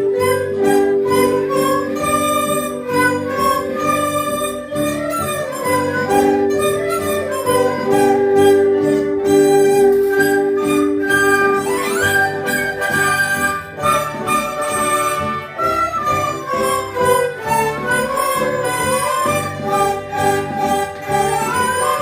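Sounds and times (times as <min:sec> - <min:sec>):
bamboo flute: 0:00.0 - 0:22.0
erhu: 0:00.0 - 0:22.0
plucked strings: 0:00.0 - 0:22.0.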